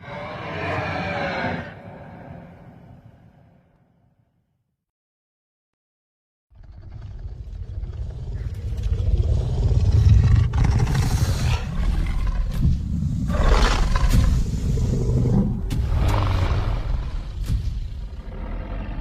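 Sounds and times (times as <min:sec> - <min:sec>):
deep rumbling dinosaur roar: 0:00.0 - 0:03.1, 0:06.5 - 0:19.0.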